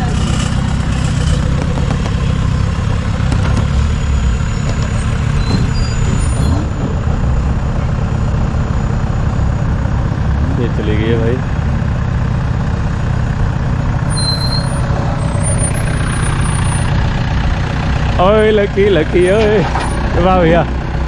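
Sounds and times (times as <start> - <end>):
engine rumbling at low revs: 0.0 - 21.0.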